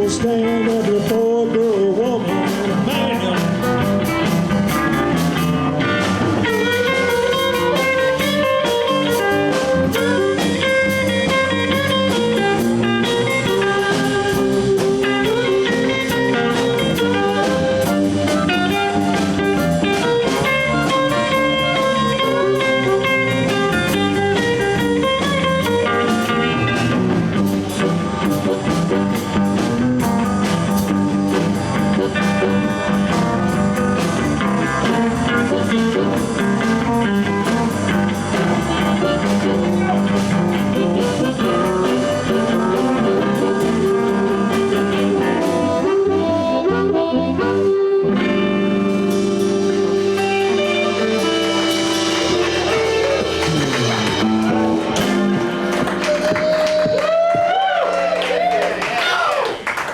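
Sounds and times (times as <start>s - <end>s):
bass: 0.0s - 59.9s
drum kit: 0.0s - 59.9s
electric guitar: 0.0s - 59.9s.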